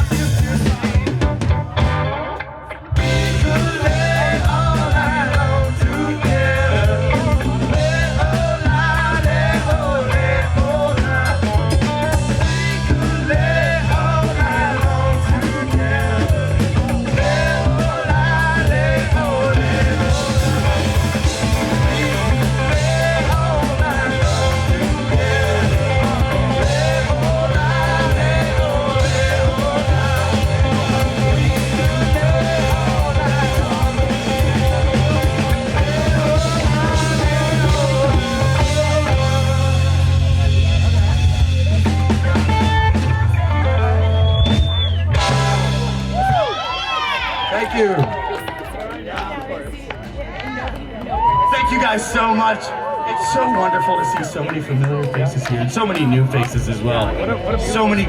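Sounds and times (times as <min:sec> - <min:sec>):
live rock band playing: 0:00.0 - 0:48.8.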